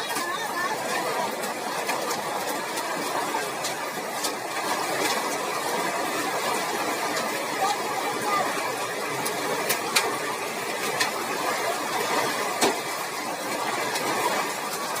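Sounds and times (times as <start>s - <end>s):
hailstones striking hard surface: 0.0s - 15.0s
rain and hail falling: 0.0s - 15.0s.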